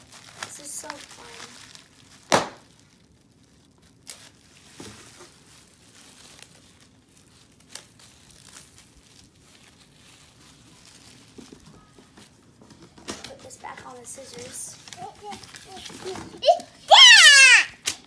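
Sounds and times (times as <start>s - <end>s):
plastic shrink wrap crinkling: 0.0s - 18.0s.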